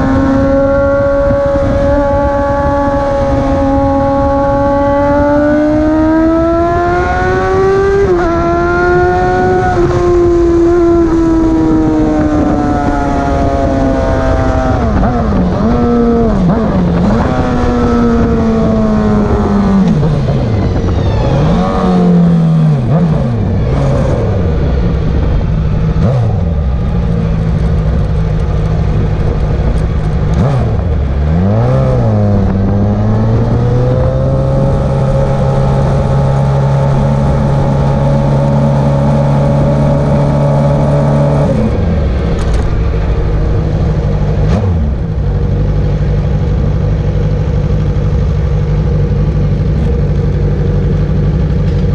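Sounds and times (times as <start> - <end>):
racing motorcycle engine: 0.0 - 51.9.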